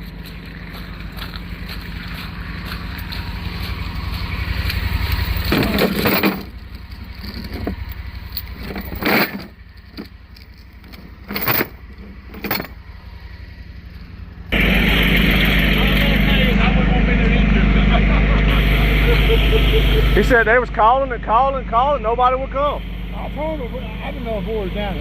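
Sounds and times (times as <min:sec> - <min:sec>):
vehicle engine under load: 0:00.0 - 0:25.0.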